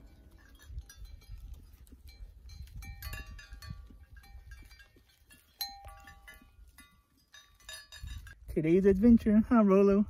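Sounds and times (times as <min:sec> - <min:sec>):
livestock bells clanking: 0:00.0 - 0:08.4.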